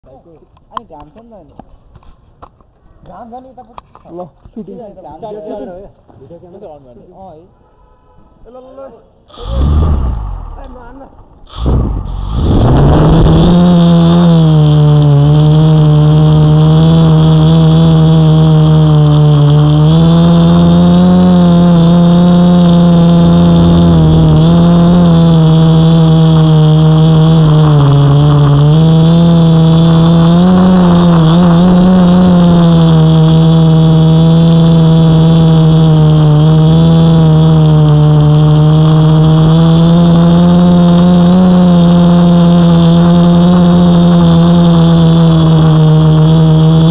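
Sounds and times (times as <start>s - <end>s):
drone propellers whirring: 9.3s - 46.9s.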